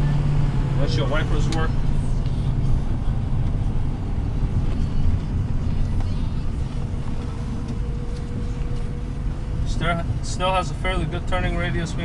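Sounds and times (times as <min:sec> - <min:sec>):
diesel engine rumble: 0:00.0 - 0:12.0
road noise: 0:00.0 - 0:12.0.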